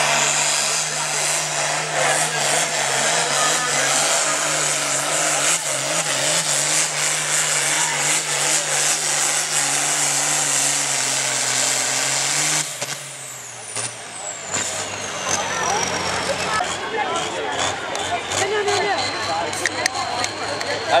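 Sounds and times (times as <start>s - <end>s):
tractor diesel engine at full throttle: 0.0s - 21.0s.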